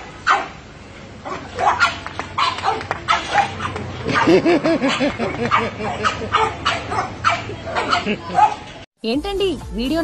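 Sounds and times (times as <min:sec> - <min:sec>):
dogs barking: 0:00.0 - 0:00.6, 0:01.2 - 0:08.8.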